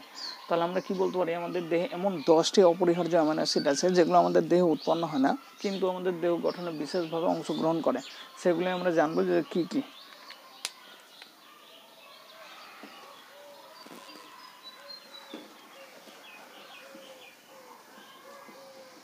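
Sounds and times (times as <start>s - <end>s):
birds calling faintly: 0.0s - 19.0s.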